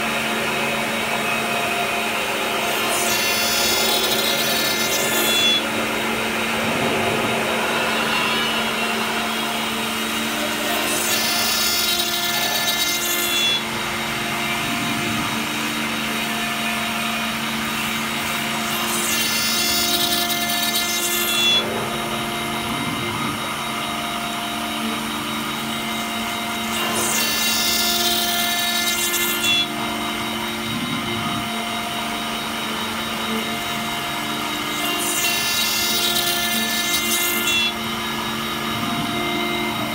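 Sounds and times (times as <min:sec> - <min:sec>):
machine hum: 0:00.0 - 0:39.9
router cutting brass: 0:00.0 - 0:39.9.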